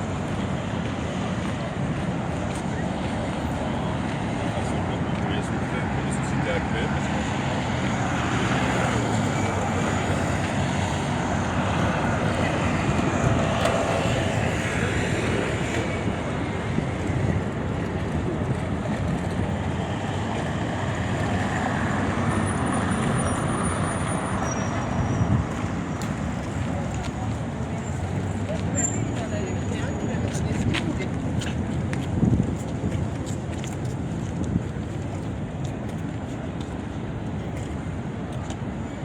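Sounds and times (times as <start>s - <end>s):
passing vehicles on busy road: 0.0s - 39.0s.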